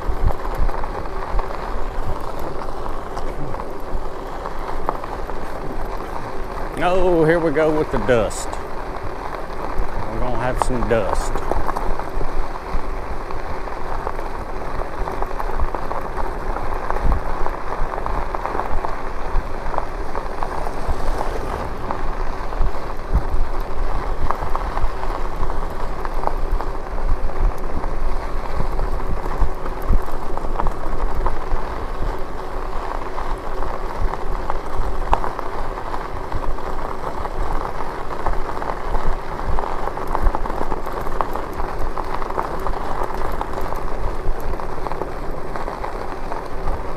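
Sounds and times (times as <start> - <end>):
bike tyres rolling on dirt road: 0.0 - 46.9.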